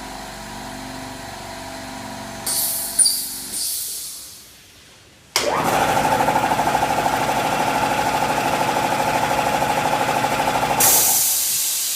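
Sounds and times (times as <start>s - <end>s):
air compressor running: 0.0s - 4.6s, 5.4s - 11.9s.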